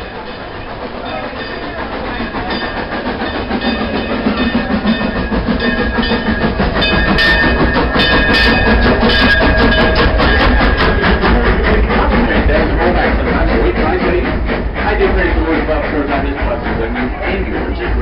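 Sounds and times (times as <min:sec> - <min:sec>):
steam locomotive approaching: 0:00.0 - 0:18.0
fast clicks and clanks: 0:00.6 - 0:18.0.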